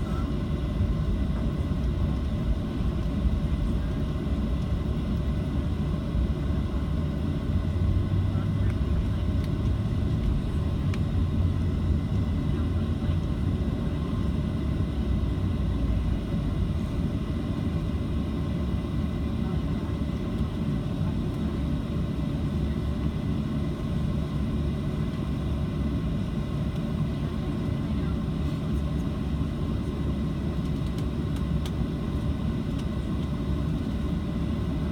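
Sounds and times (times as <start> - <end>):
jet engine cabin rumble: 0.0 - 34.9.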